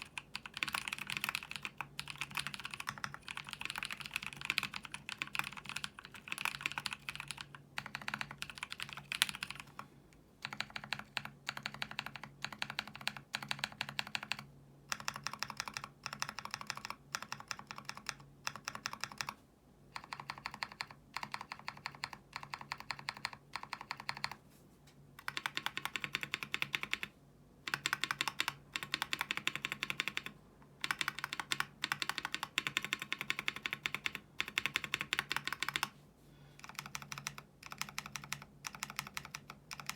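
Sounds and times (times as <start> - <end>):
mechanical keyboard typing: 0.0 - 9.8, 10.4 - 24.4, 25.2 - 35.9, 36.6 - 39.9.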